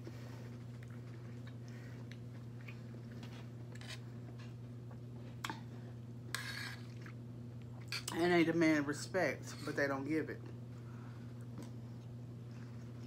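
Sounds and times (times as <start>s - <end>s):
soft chewing: 0.0s - 8.2s, 10.4s - 13.0s
steady low hum: 0.0s - 13.0s.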